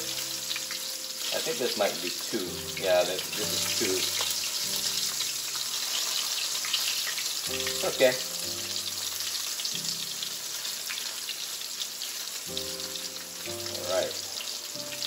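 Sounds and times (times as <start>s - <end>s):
frying oil sizzling and crackling: 0.0s - 15.0s.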